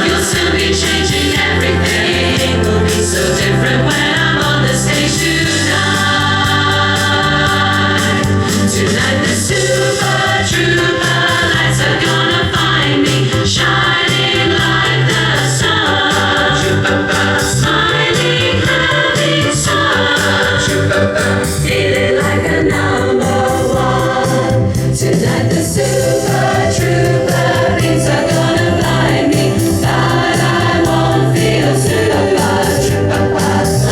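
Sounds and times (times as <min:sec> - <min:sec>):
choir-like singing: 0:00.0 - 0:33.9
steady bass: 0:00.0 - 0:33.9.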